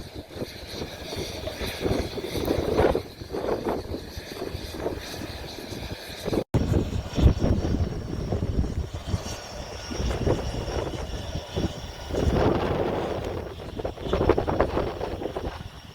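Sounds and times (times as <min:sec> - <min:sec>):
airplane engine running: 0:00.0 - 0:15.9
wind buffeting microphone: 0:00.0 - 0:15.9.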